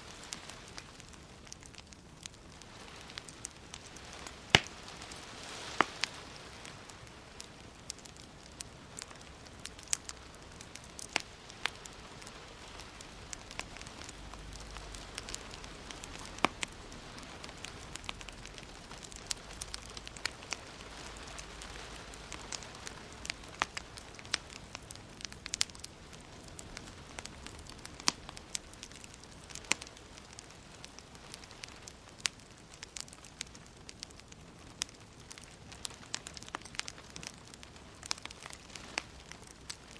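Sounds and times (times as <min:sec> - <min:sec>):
fire hissing softly: 0:00.0 - 0:39.9
wood fire crackling and popping: 0:00.0 - 0:39.9.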